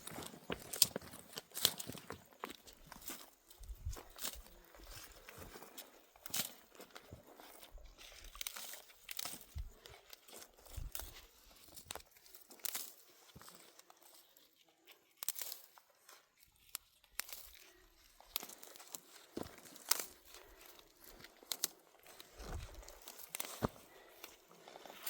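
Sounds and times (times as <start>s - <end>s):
dry vegetation crackling and tearing: 0.0s - 25.0s.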